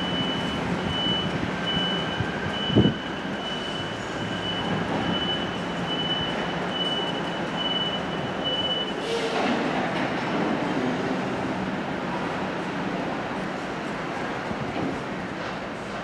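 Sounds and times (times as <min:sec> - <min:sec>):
electric train running hum: 0:00.0 - 0:16.0.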